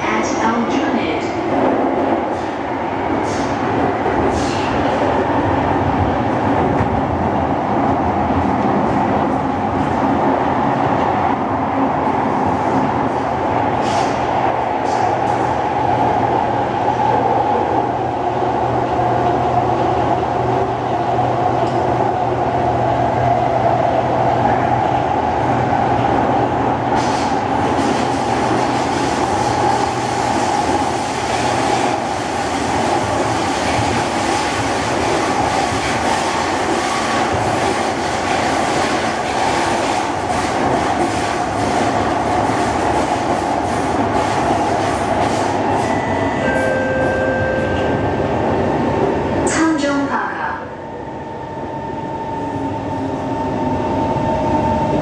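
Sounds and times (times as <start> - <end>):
wheels rumbling on rail: 0.0 - 49.6.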